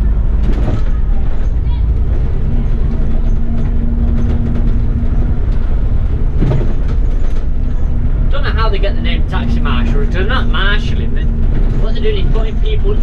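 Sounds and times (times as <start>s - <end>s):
bus engine and road rumble: 0.0s - 13.0s
steady hum: 0.0s - 13.0s.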